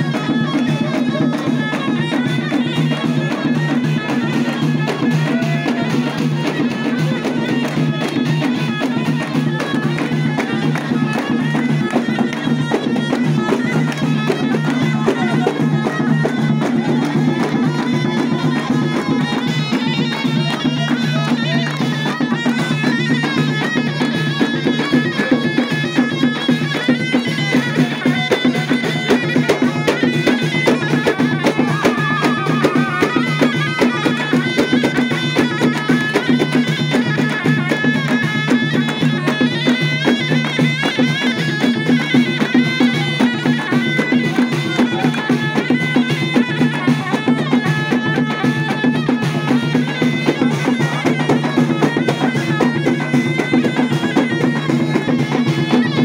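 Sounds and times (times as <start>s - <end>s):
drums beating: 0.0s - 56.0s
reedy wind instrument melody: 0.0s - 56.0s.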